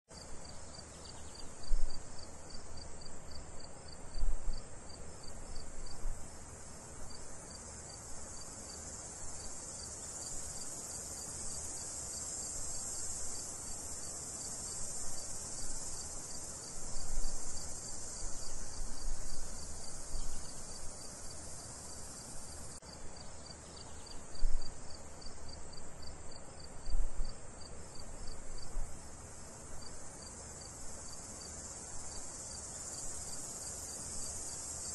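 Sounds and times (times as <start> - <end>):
crickets chirping: 0.1 - 34.9
high insect hiss: 0.1 - 34.9.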